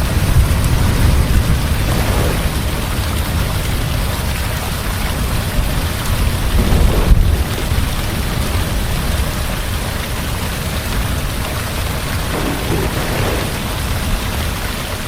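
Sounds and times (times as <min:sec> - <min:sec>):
heavy rain falling: 0:00.0 - 0:15.0
deep rumble of thunder: 0:00.7 - 0:15.0.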